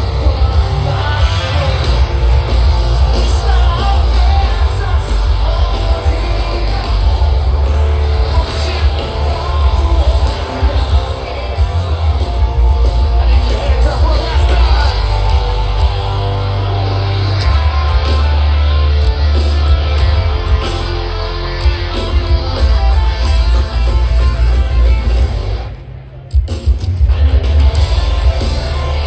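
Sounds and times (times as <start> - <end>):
heavy rock band playing: 0.0 - 29.0.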